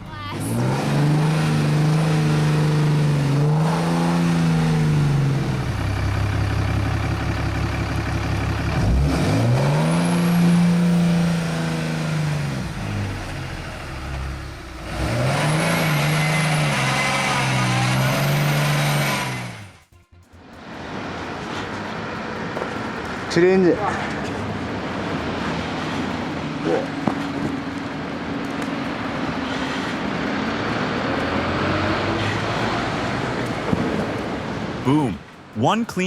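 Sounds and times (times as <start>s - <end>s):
engine revving: 0.0s - 35.8s
wheels spinning in snow: 0.2s - 35.0s.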